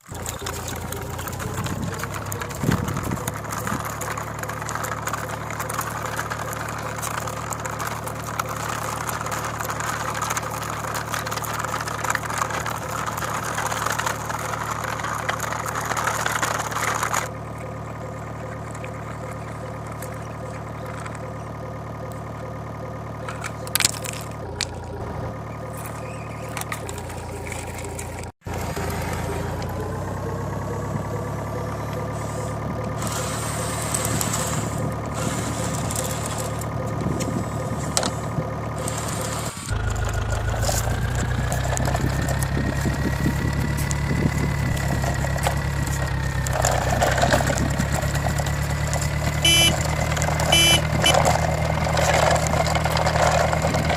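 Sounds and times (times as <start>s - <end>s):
vehicle engines idling: 0.0s - 53.9s.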